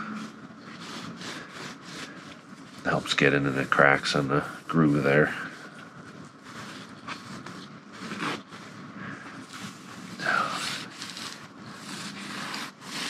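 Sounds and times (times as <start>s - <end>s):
cloth rubbing on metal rail: 0.0s - 13.0s.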